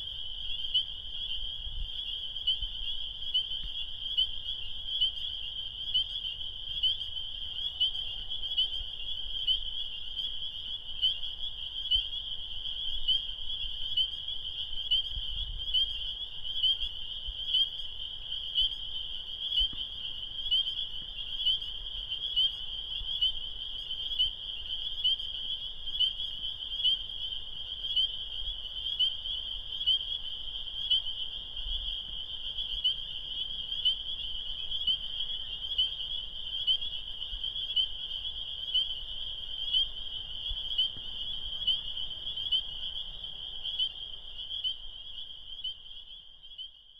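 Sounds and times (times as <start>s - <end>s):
frogs peeping chorus: 0.0s - 46.9s.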